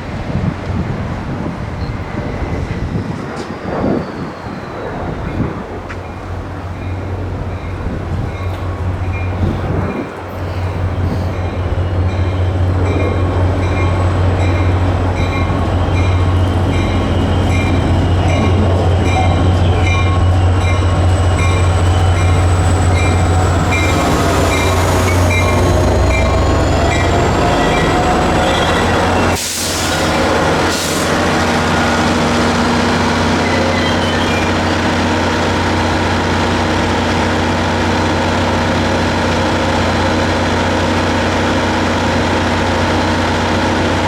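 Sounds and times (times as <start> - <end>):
train engine droning: 0.0 - 44.0.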